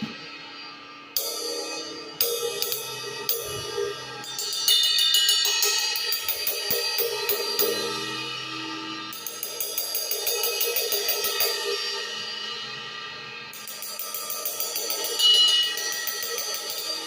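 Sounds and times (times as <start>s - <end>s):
ride cymbal played with stick: 0.0s - 17.0s.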